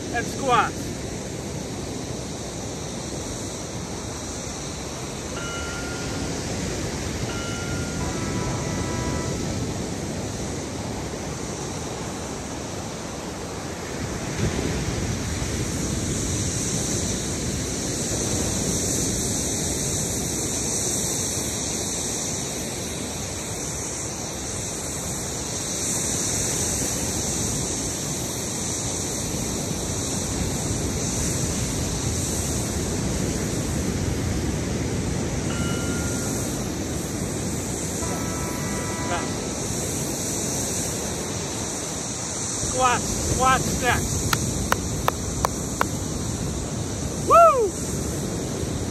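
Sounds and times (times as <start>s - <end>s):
ocean surf and wind: 0.0s - 48.9s.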